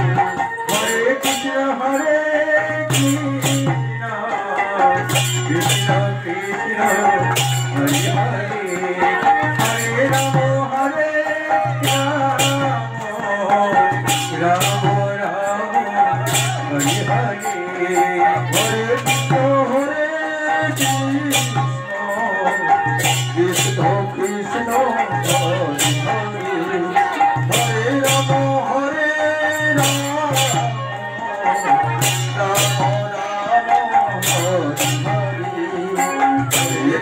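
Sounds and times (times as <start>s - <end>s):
sharp percussive strikes: 0.0s - 37.0s
voices singing devotional song: 0.0s - 37.0s.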